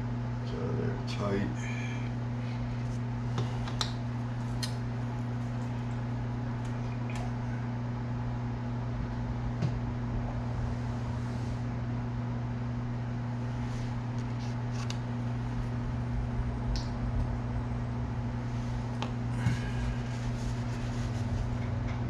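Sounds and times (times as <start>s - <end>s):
low electric hum: 0.0s - 22.0s.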